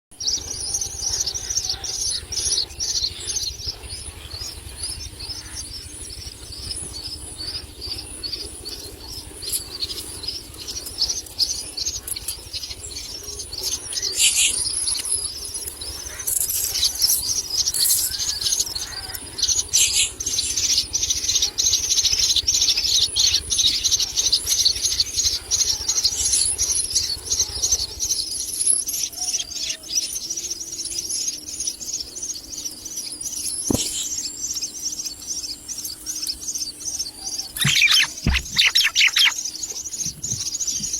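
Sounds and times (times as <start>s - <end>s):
nestlings begging calls: 0.2s - 40.9s.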